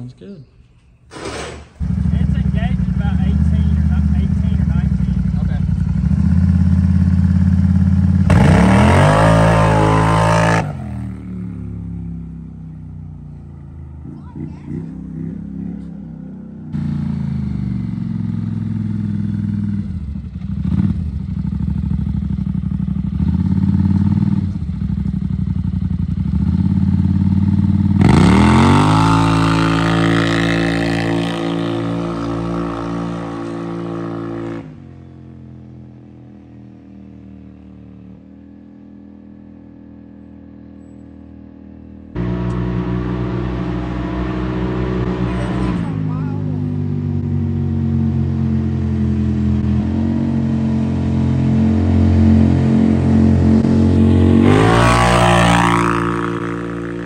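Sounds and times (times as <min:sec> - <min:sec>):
atv engine revving: 0:01.1 - 0:35.7, 0:42.1 - 0:57.0.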